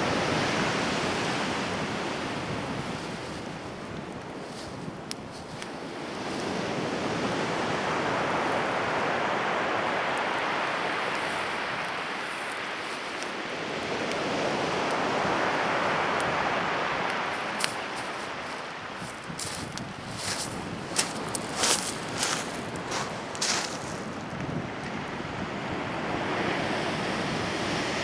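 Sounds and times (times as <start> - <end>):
campfire crackling: 0.0 - 26.0
wind gusting: 0.0 - 28.0.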